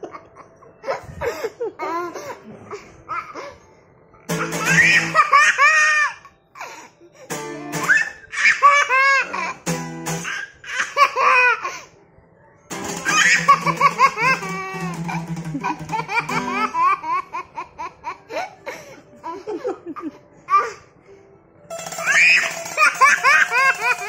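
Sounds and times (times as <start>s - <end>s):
toddler laughing: 0.0s - 3.5s, 4.3s - 6.8s, 7.8s - 9.6s, 10.2s - 11.9s, 13.0s - 20.8s, 21.9s - 24.0s.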